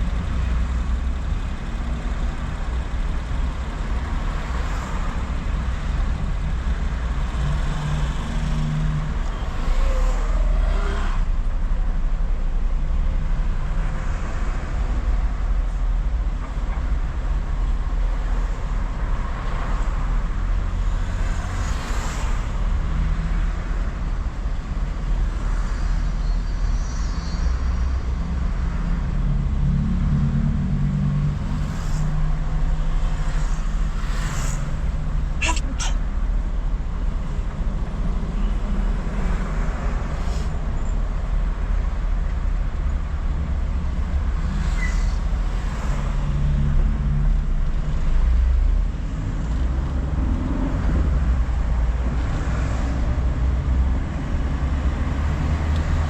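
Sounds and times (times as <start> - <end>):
car engine hum and road rumble: 0.0 - 56.0
traffic noise: 0.0 - 56.0.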